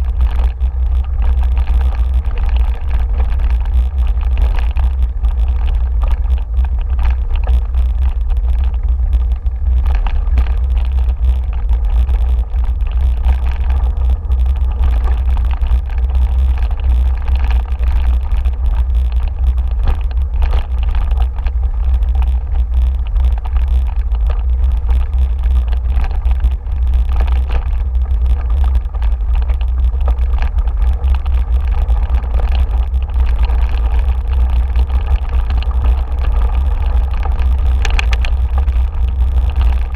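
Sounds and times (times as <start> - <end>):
bike rattling and knocking: 0.0 - 39.9
wind rumble on microphone: 0.0 - 39.9.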